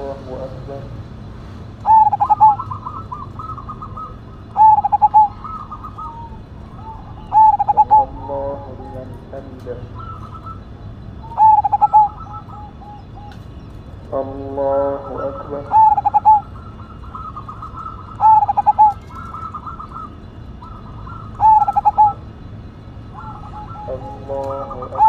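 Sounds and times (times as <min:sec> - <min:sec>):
dove cooing: 0:00.0 - 0:25.0.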